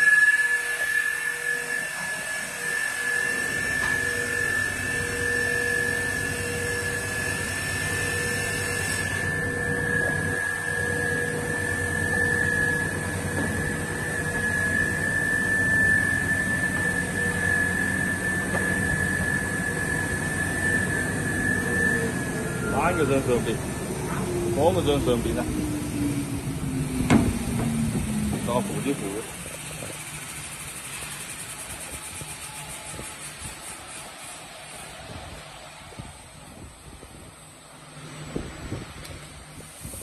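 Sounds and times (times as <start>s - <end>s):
rip saw high-pitched whine: 0.0s - 36.0s
machine drone: 0.0s - 36.8s.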